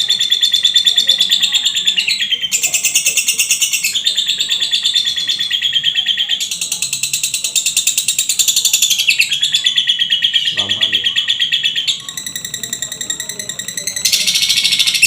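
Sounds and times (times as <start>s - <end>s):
songbird rapid trills: 0.0s - 15.0s.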